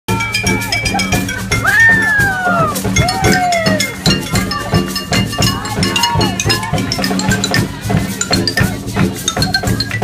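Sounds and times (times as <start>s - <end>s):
bass drum and cymbal beats: 0.1s - 10.0s.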